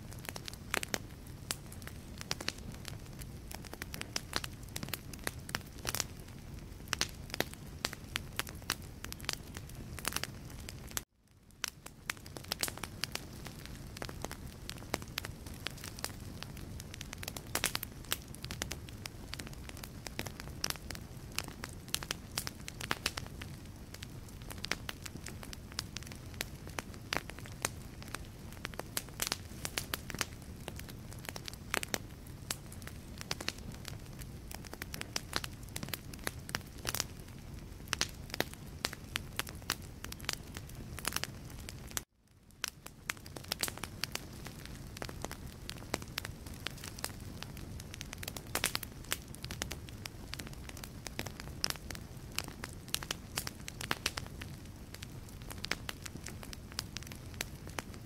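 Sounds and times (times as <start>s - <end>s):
burning logs popping and snapping: 0.0s - 58.0s
low rumble of flame: 0.0s - 58.0s.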